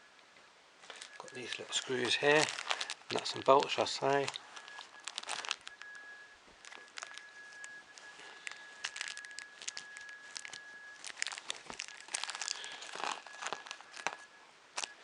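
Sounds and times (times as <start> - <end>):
plastic bag crinkling: 0.8 - 15.0.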